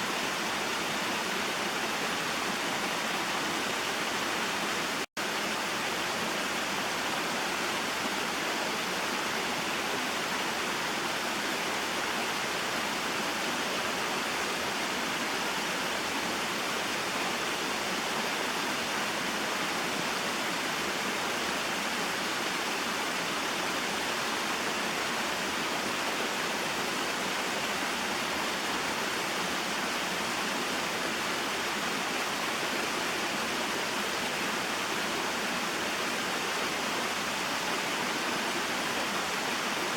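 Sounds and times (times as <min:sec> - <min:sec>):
waterfall splashing and rushing: 0:00.0 - 0:39.9.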